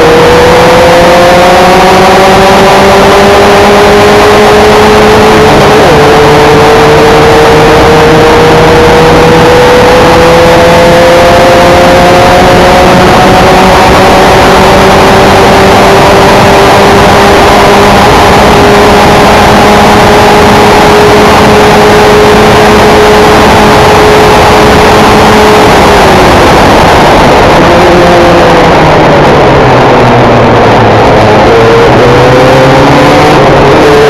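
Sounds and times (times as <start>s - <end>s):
race car engine pulling hard: 0.0s - 34.0s
steady rush of noise: 0.0s - 34.0s.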